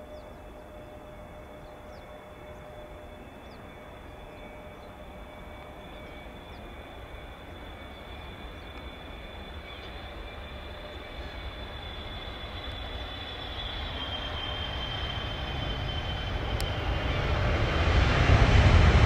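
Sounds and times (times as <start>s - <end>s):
jet engine rumble and whine: 0.0s - 19.0s.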